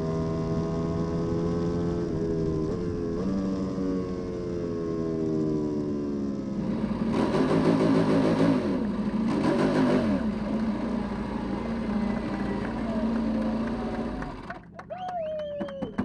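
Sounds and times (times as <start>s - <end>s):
superbike engine revving: 0.0s - 14.7s.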